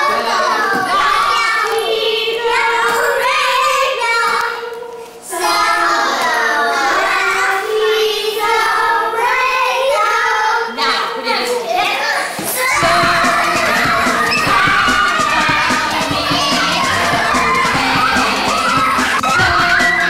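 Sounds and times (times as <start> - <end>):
children singing together: 0.0 - 20.0.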